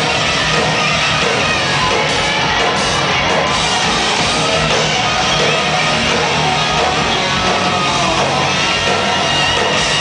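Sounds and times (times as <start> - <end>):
distorted electric guitars: 0.0 - 10.0
drums: 0.0 - 10.0.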